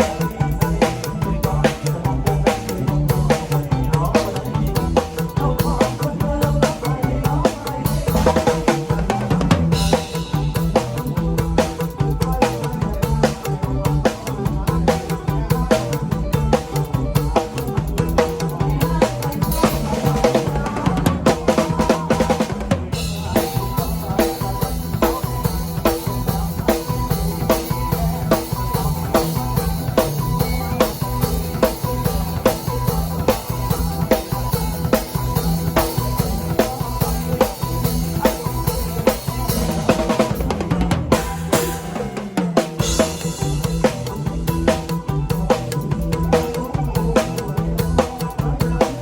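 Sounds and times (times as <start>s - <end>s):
drum kit beat: 0.0s - 49.0s
repeating instrumental melody: 0.0s - 49.0s.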